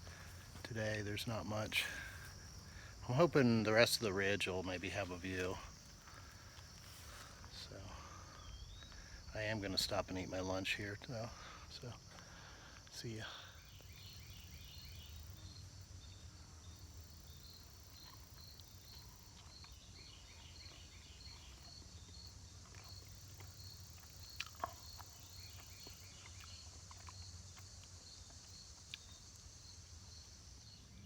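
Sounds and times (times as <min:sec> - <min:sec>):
insect chirps: 0:00.0 - 0:31.0
insect chorus droning: 0:00.0 - 0:31.0.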